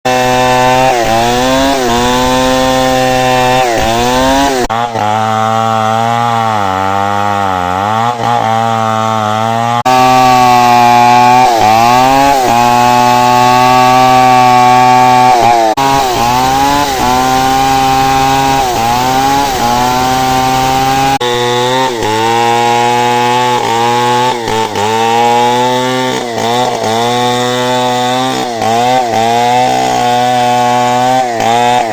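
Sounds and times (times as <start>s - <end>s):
chainsaw cutting wood: 0.1s - 31.9s.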